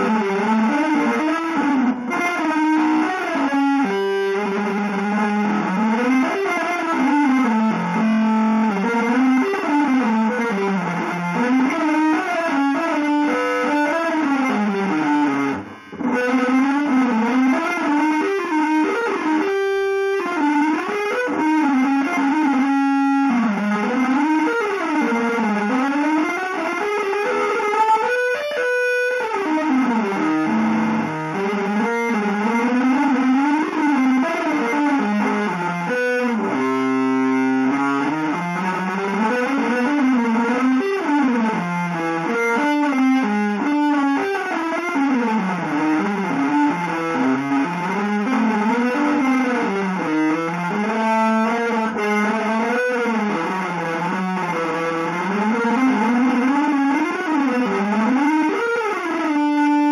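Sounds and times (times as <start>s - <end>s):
distorted electric guitar improvisation: 0.0s - 59.9s.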